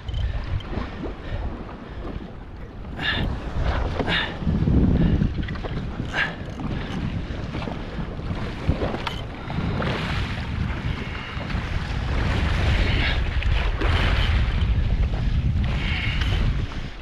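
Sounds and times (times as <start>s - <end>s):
choppy sea water splashing: 0.0s - 17.0s
wind buffeting microphone: 0.0s - 17.0s.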